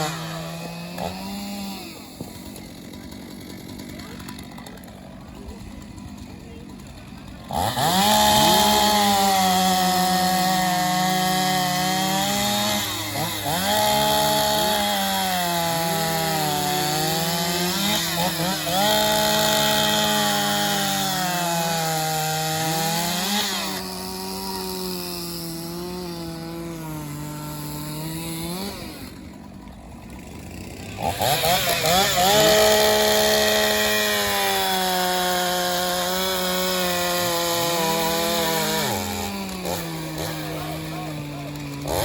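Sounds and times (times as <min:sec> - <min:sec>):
chainsaw cutting wood: 0:00.0 - 0:42.0.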